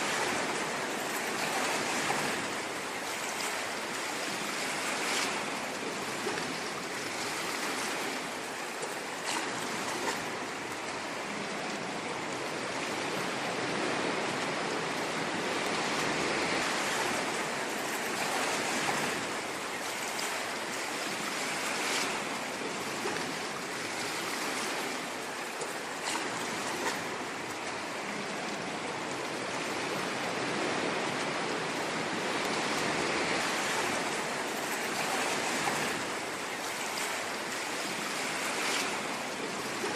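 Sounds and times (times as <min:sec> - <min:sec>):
ocean surf washing on shore: 0:00.0 - 0:39.9.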